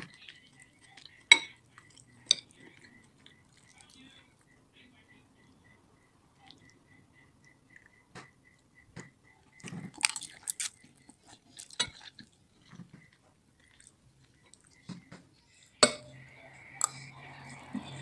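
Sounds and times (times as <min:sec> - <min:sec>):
person chewing food: 0:00.0 - 0:04.6, 0:05.4 - 0:18.0.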